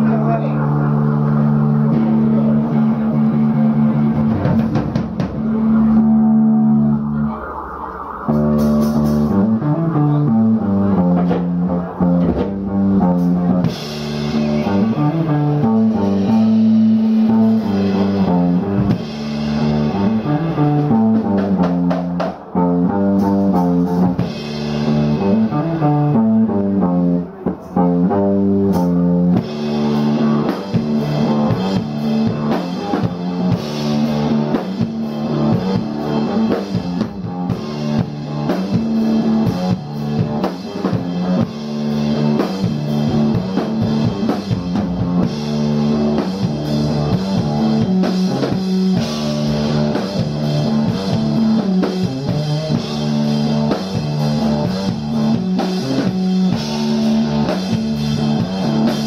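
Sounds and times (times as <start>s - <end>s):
guitar riff: 0.0s - 59.0s
steady drumming: 0.0s - 59.0s.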